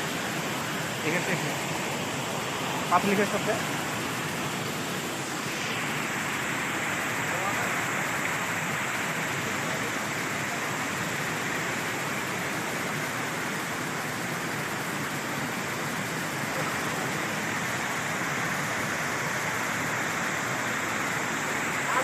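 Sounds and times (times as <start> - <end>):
water rushing over boulders: 0.0 - 22.0.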